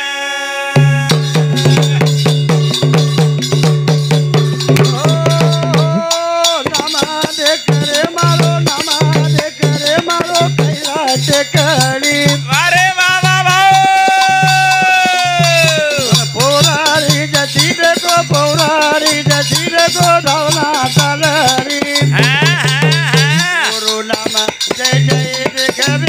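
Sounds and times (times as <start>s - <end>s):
man singing: 0.0s - 26.0s
rattling percussion beat: 0.8s - 26.0s.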